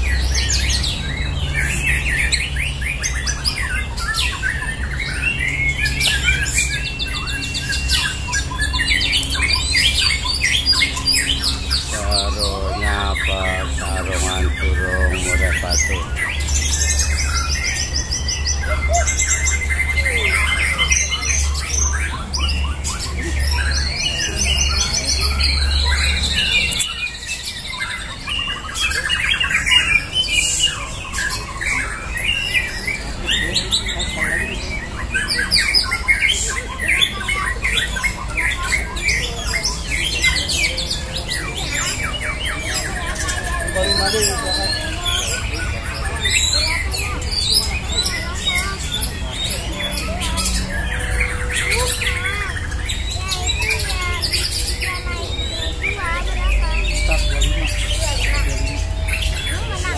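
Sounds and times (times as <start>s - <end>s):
songbirds whistling and trilling: 0.0s - 59.9s.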